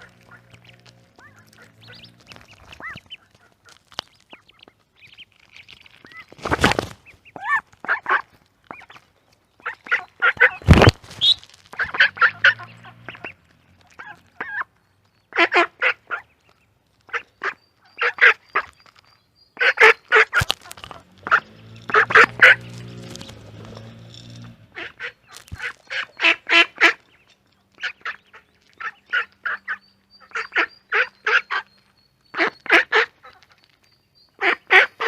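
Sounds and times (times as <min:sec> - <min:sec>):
ducks quacking: 0:00.0 - 0:18.7, 0:19.6 - 0:23.8, 0:24.4 - 0:27.2, 0:27.8 - 0:33.6, 0:34.4 - 0:35.0.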